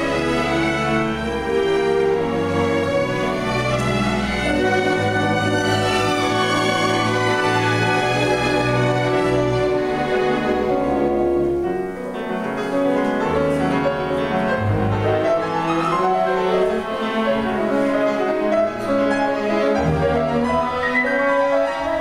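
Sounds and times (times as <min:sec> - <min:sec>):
bowed strings: 0:00.0 - 0:22.0
orchestra playing classical music: 0:00.0 - 0:22.0.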